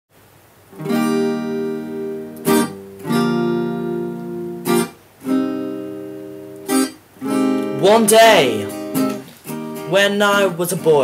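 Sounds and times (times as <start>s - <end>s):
acoustic guitar strumming chords: 0.7s - 11.0s.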